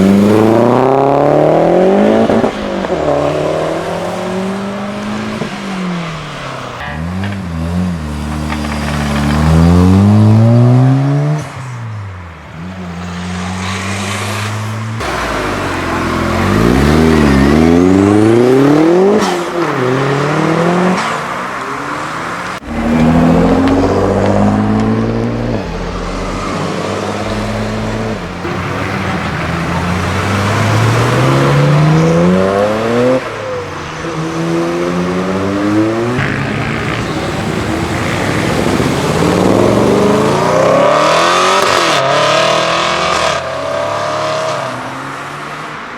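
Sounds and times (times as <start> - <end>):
car engines accelerating hard: 0.0 - 45.9.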